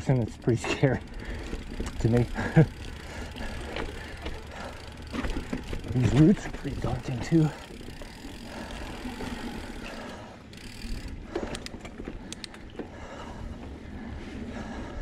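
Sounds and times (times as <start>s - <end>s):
bike tyres rumbling over dirt: 0.0s - 12.3s
sharp clicks over roots: 0.0s - 12.9s
bike rattling: 0.0s - 15.0s.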